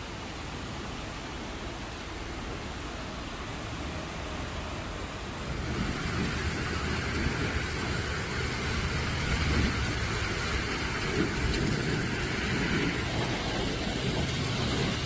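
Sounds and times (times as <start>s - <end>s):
heavy rain: 0.0s - 15.0s
road traffic: 0.0s - 15.0s.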